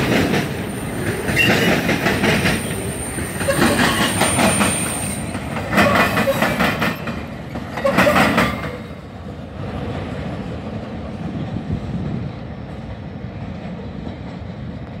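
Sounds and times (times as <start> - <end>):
freight train clattering over rail joints: 0.0 - 15.0
train low rumble: 0.0 - 15.0.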